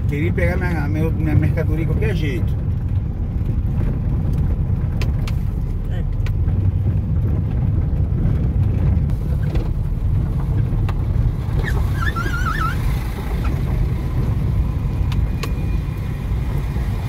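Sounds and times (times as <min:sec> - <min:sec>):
car rolling over cobblestones: 0:01.2 - 0:17.0.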